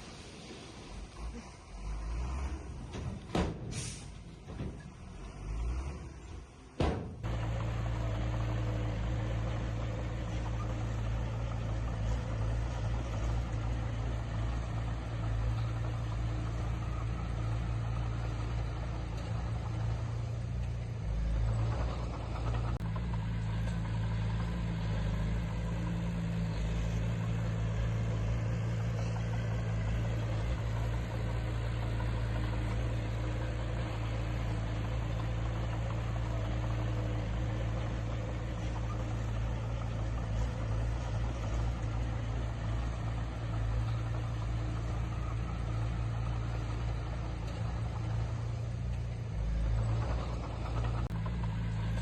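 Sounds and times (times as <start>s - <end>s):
diesel engine of heavy machinery: 0.0s - 52.0s.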